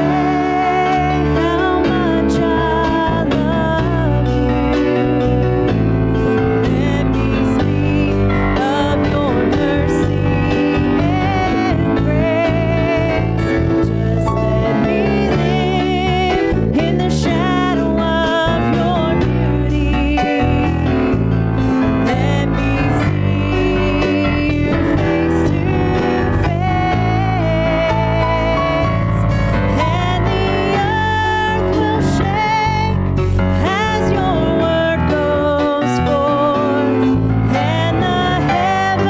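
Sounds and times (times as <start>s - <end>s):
person singing: 0.0s - 39.0s
worship band playing: 0.0s - 39.0s.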